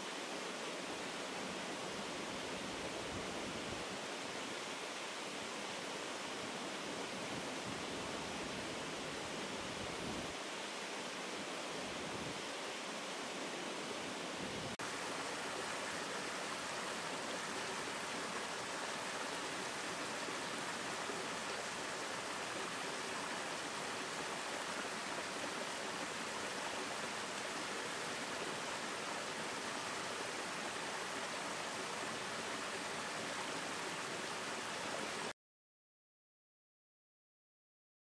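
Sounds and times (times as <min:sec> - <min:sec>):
stream cascading over rocks: 0:00.0 - 0:35.3.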